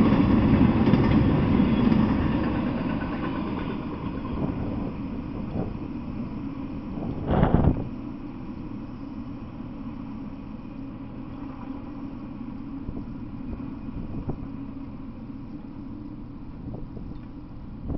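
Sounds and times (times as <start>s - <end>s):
low engine rumble: 0.0s - 17.9s.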